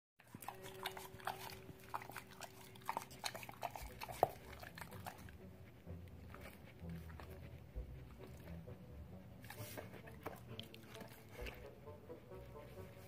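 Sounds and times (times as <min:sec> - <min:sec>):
dog snuffling: 0:00.2 - 0:13.0.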